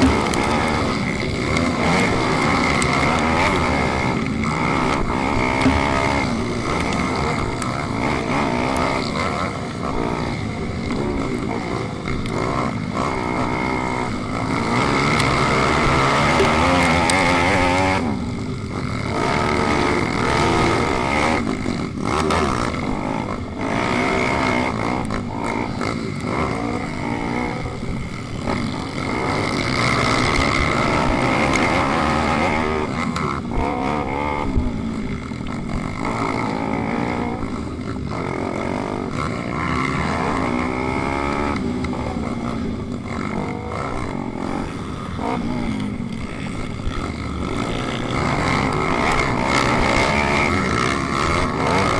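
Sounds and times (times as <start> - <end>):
motorbike engines revving: 0.0 - 51.9.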